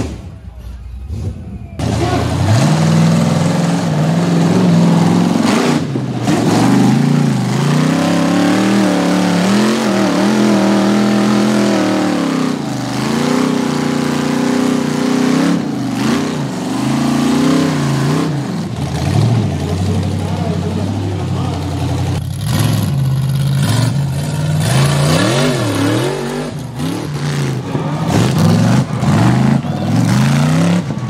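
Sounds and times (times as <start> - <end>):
buggy engine revving hard: 1.1 - 31.0.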